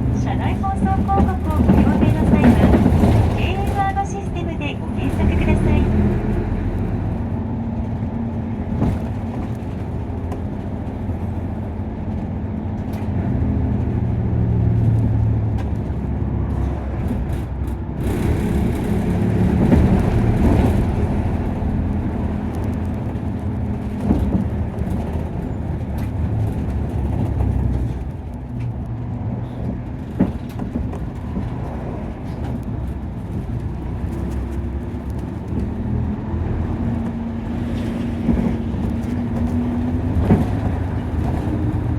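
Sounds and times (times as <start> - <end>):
bus body knocking: 0.0 - 13.2, 14.7 - 41.9
bus diesel engine running: 0.0 - 41.9.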